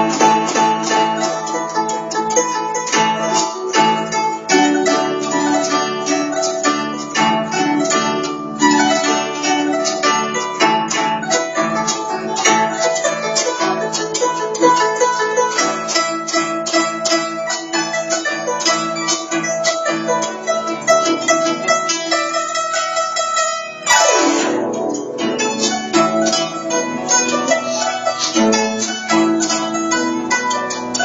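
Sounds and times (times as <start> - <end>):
zither plucked notes: 0.0 - 31.0.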